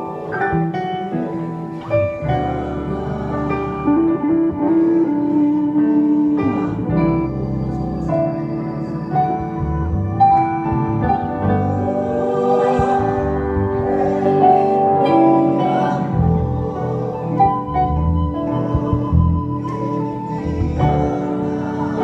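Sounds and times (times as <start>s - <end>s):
held keyboard chords: 0.0s - 22.0s.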